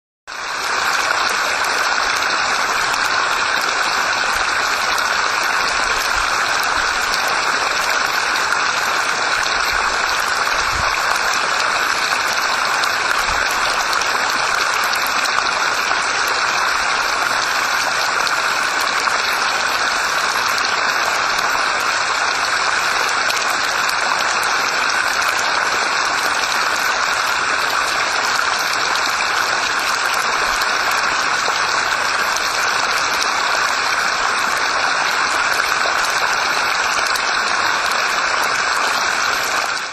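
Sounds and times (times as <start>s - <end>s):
creek water splashing over rocks: 0.3s - 39.9s.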